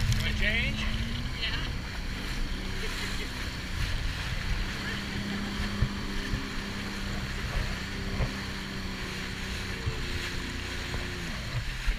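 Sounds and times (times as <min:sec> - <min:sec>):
jet ski engine running: 0:00.0 - 0:11.9
rushing water: 0:00.0 - 0:11.9
short low thumps: 0:00.0 - 0:11.9
wind on microphone: 0:00.0 - 0:11.9.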